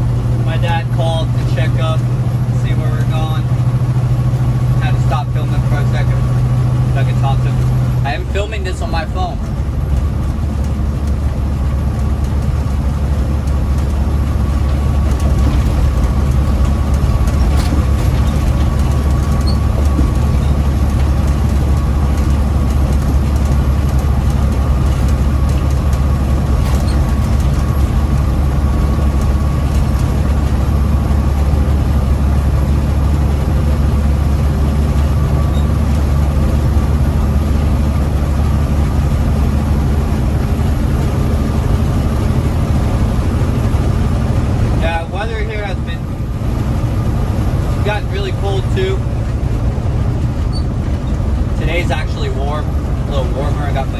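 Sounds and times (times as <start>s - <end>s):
diesel truck engine drone: 0.0s - 53.9s.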